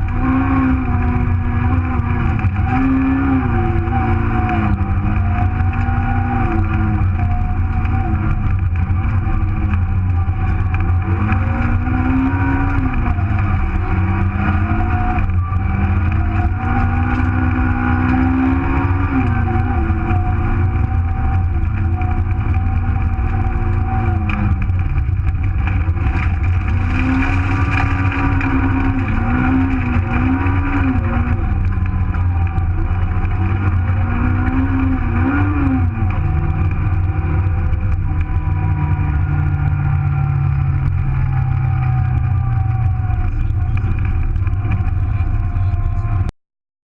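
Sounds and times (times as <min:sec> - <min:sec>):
car engine revving: 0:00.0 - 0:46.3
road and tyre rumble: 0:00.0 - 0:46.4.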